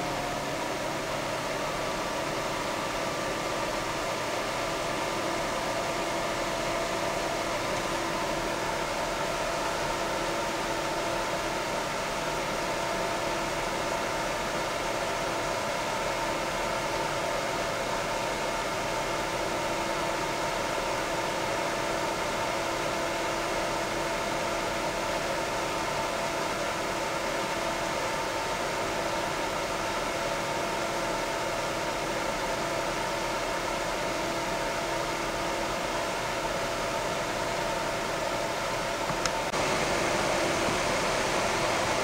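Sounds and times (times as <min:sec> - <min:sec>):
cooling fan rushing air: 0:00.0 - 0:42.0
faint steady fan tones: 0:00.0 - 0:42.0.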